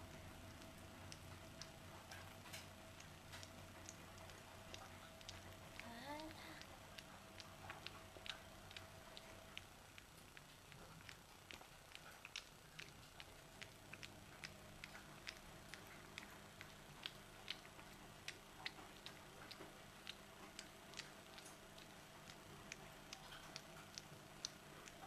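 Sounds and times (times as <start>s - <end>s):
puppy chewing and licking: 0.0s - 25.0s.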